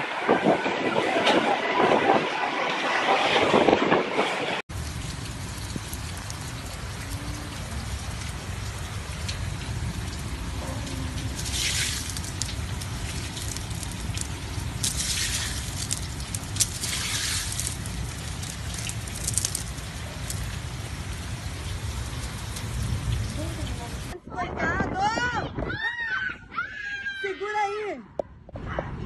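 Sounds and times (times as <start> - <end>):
low rumble: 0.0 - 25.7
heavy wind-driven rain: 0.0 - 26.1.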